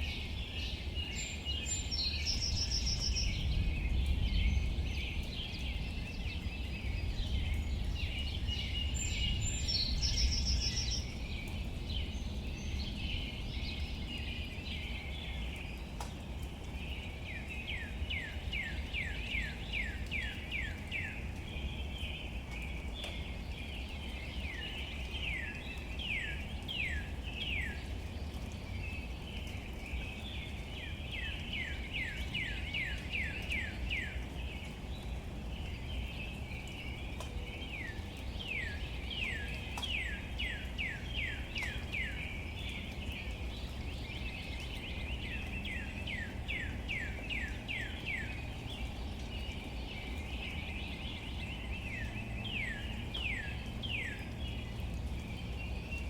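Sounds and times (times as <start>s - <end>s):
rain on leaves: 0.0s - 56.0s.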